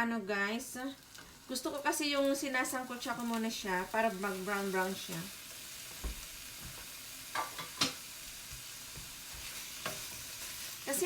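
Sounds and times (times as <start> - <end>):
meat sizzling in a hot pan: 0.4 - 11.0.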